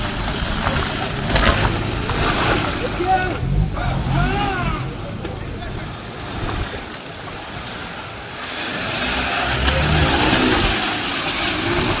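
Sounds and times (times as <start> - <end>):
racing car passing: 0.0 - 12.0.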